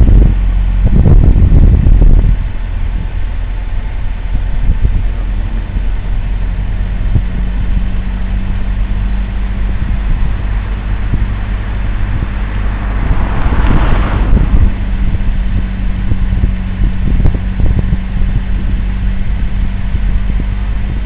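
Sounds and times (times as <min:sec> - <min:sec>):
car engine humming steadily: 0:00.0 - 0:21.0.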